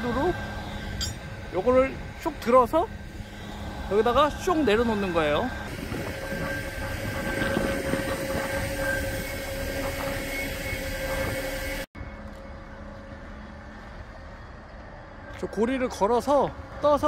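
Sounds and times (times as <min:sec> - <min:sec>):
crane motor whining: 0:00.0 - 0:15.6.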